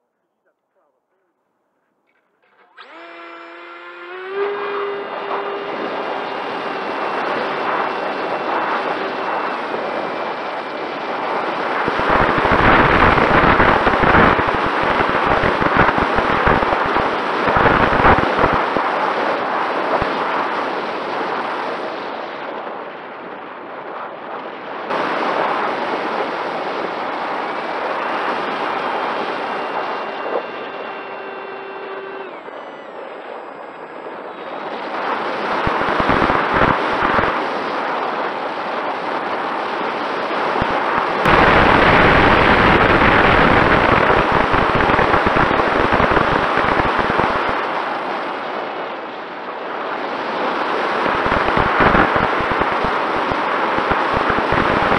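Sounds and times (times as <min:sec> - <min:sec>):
electric motor whine: 0:02.3 - 0:22.6, 0:24.9 - 0:49.4, 0:50.1 - 0:54.9
wind noise: 0:02.8 - 0:54.9
gusts buffeting microphone: 0:03.7 - 0:54.9.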